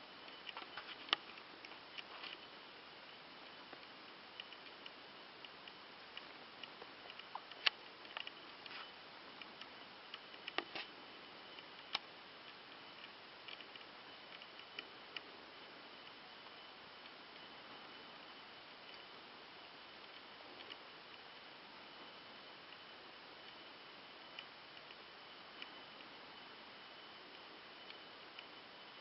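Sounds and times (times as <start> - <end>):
faint steady hiss: 0.0 - 29.0
small clicks and ticks: 0.1 - 29.0.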